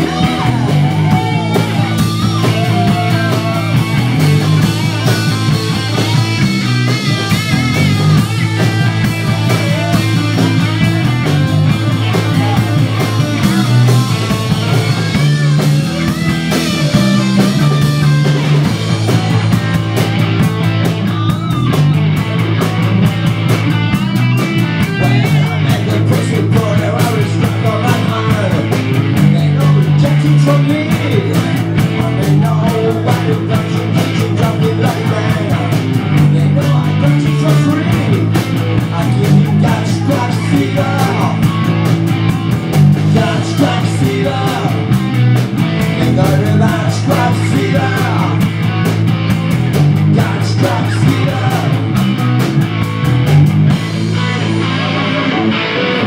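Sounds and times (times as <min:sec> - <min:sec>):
bass guitar: 0:00.0 - 0:56.0
distorted electric guitar: 0:00.0 - 0:56.0
drum kit rock beat: 0:00.0 - 0:56.0.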